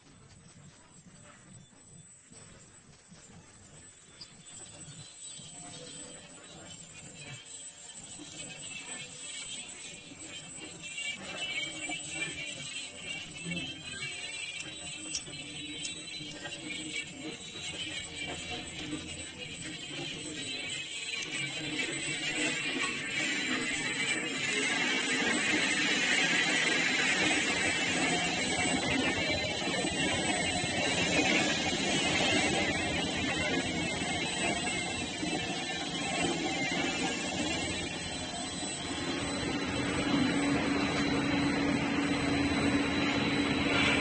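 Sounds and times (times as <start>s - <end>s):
wood sanding machine whirring: 8.3s - 44.0s.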